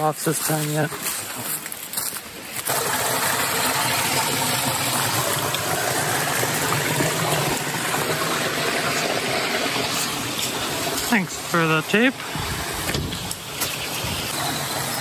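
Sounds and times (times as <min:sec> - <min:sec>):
water rushing over stones: 0:00.0 - 0:15.0.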